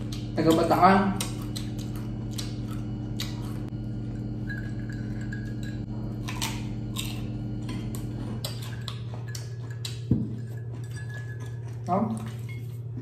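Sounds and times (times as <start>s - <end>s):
crispy food crunching: 0.0s - 3.9s, 6.0s - 13.0s
low hum: 0.0s - 13.0s.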